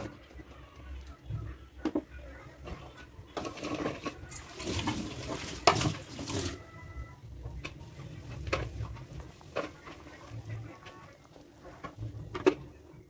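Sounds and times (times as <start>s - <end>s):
broth boiling and bubbling: 2.5s - 13.0s.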